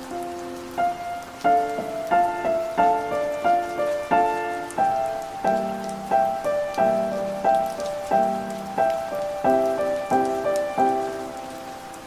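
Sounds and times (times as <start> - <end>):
rain hiss: 0.0 - 12.0
slow piano notes: 0.0 - 12.0.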